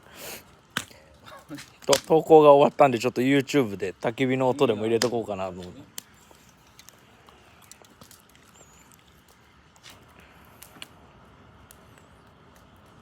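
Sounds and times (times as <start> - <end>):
low fire hiss: 0.0 - 13.0
campfire wood popping: 0.1 - 13.0.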